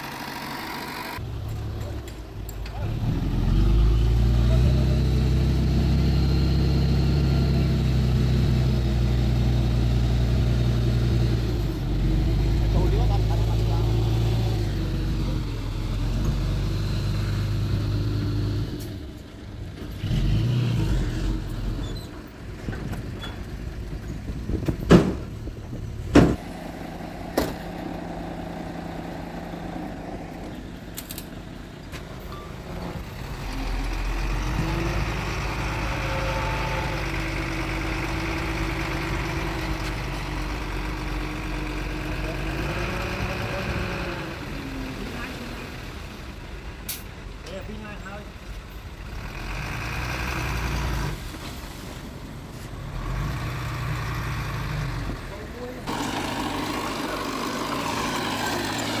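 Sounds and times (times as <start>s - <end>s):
diesel earthmoving machinery engines: 0.0s - 59.0s.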